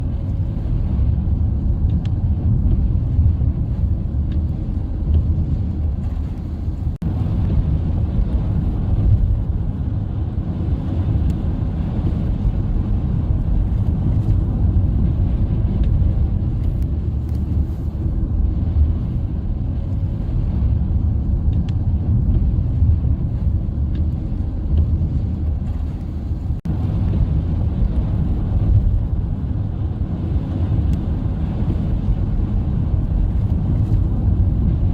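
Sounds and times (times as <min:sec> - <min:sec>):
low rumble of moving car: 0:00.0 - 0:34.9.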